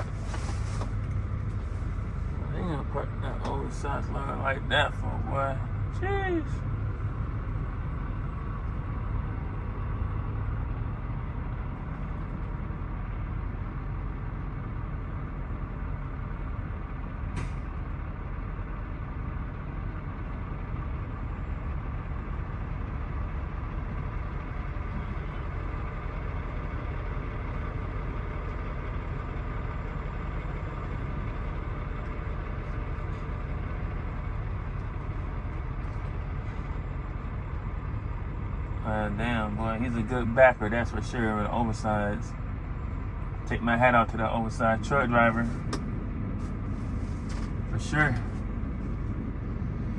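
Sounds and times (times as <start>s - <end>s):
diesel truck engines idling: 0.0s - 49.9s.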